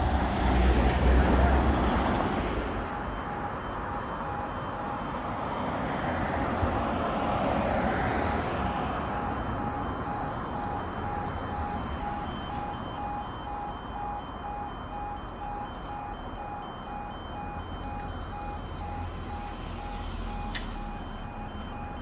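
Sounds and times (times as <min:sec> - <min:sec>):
road traffic: 0:00.0 - 0:22.0
level crossing alarm beeps: 0:00.1 - 0:22.0.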